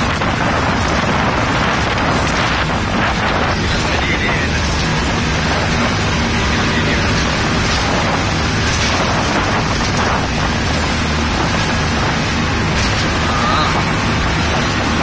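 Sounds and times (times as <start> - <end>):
boat engine drone: 0.0 - 15.0
rushing water and wind: 0.0 - 15.0.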